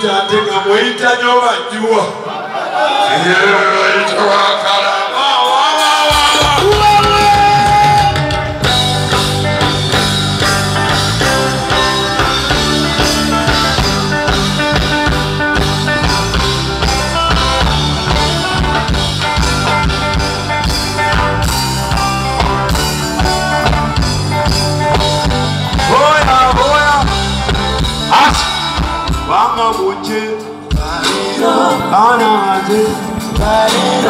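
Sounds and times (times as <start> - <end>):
live band playing: 0.0 - 34.0.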